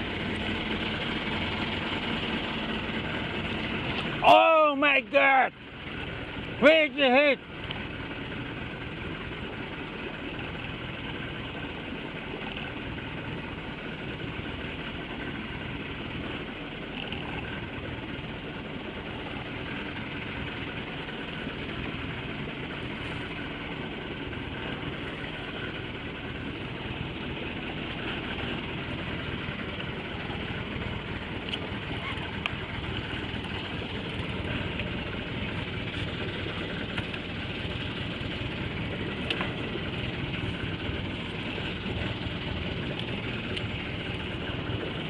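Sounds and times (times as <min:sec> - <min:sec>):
boat engine idling: 0:00.0 - 0:45.0.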